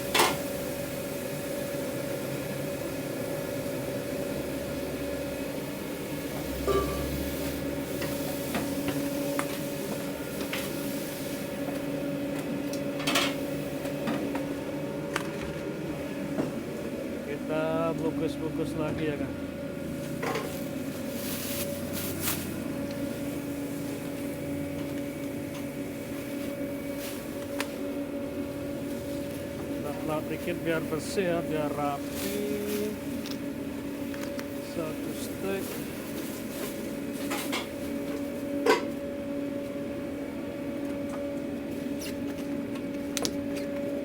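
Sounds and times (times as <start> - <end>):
kitchen equipment humming: 0.0 - 44.0.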